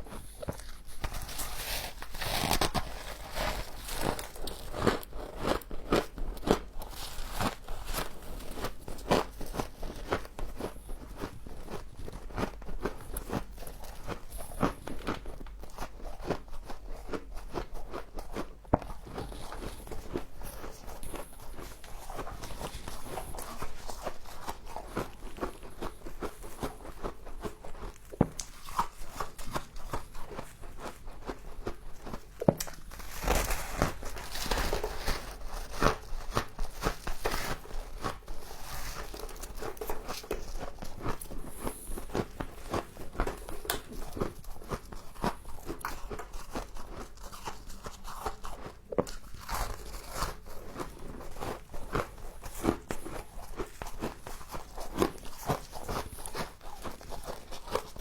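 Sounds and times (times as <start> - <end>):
frost being chewed crunching: 0.0 - 58.0.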